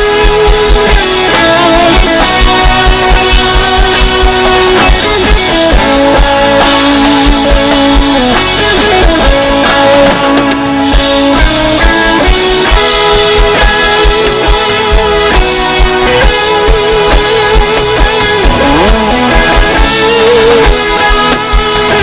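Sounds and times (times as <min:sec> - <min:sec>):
rock music with guitar and drums: 0:00.0 - 0:22.0.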